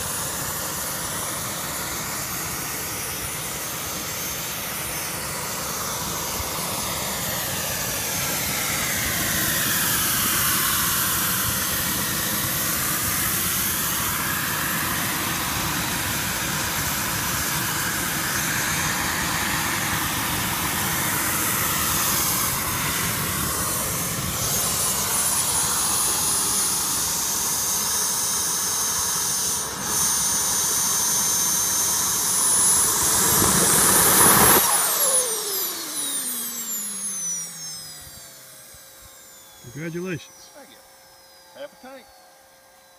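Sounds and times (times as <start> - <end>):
model jet turbine whining: 0.0 - 42.9.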